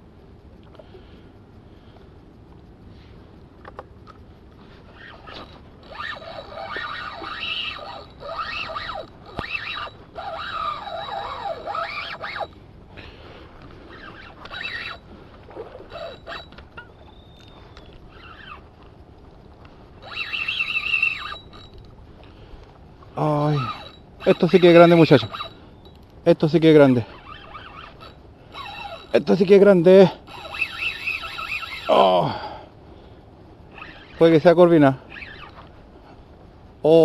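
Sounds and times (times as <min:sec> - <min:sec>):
fishing reel whirring: 0:00.6 - 0:18.9, 0:19.6 - 0:32.6, 0:33.6 - 0:35.8.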